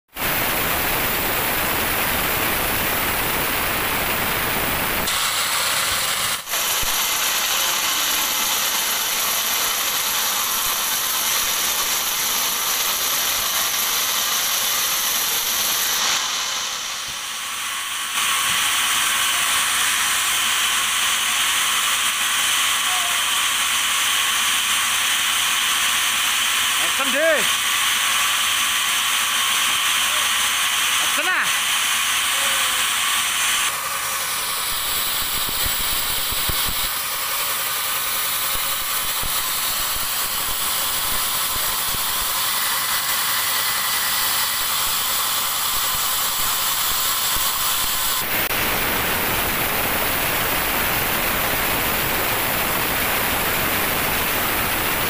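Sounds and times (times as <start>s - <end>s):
band saw blade cutting log: 0.2s - 55.0s.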